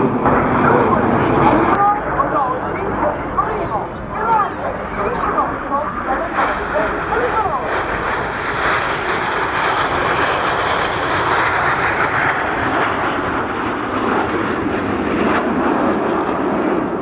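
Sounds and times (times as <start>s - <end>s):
aircraft engine flying by: 0.0s - 17.0s.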